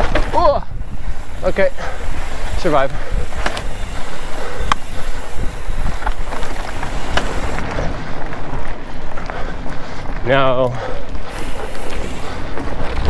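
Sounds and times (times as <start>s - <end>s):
bike knocking and rattling: 0.0s - 13.0s
bike tyres rumbling on dirt: 0.0s - 13.0s
wind buffeting microphone: 0.0s - 13.0s.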